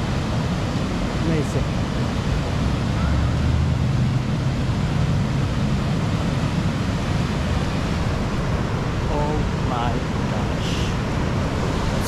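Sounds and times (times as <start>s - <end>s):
flooding river rushing: 0.0s - 12.0s.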